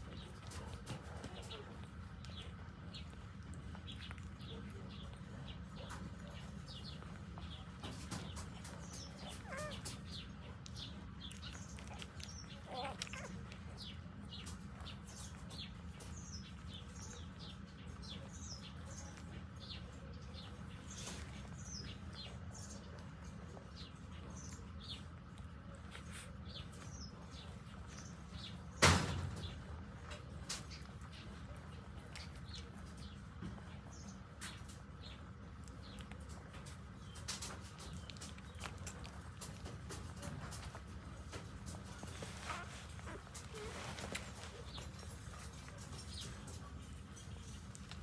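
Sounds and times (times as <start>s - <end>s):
small birds chirping: 0.0s - 48.0s
steady low hum: 0.0s - 48.0s.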